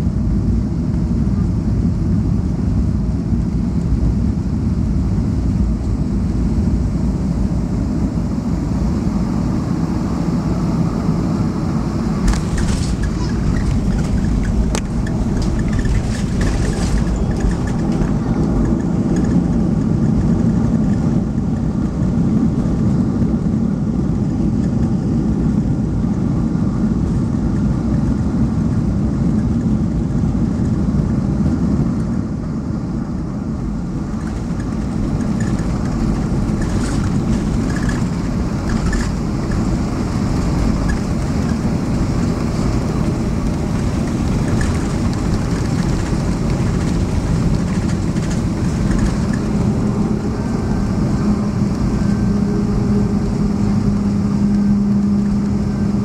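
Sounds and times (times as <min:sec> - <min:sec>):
airflow over airframe: 0:00.0 - 0:56.0
jet engine rumble: 0:00.0 - 0:56.0.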